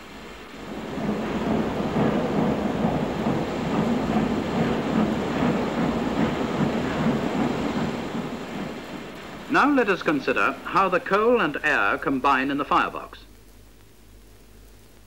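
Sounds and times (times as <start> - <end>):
steam train rumbling: 0.0 - 13.2.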